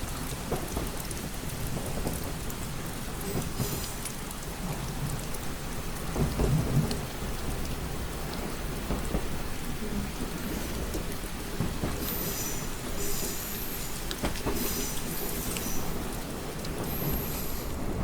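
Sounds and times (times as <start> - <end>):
rain pattering on a window: 0.0 - 18.0.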